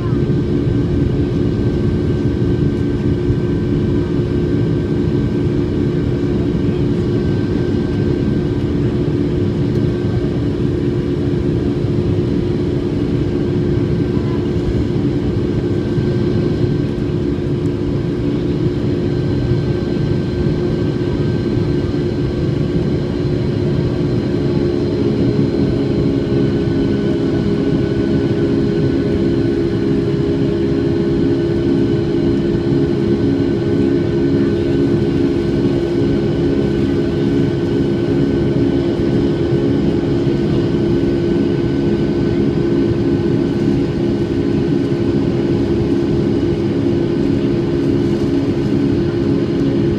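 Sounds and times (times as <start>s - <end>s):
jet engine hum in cabin: 0.0s - 49.9s.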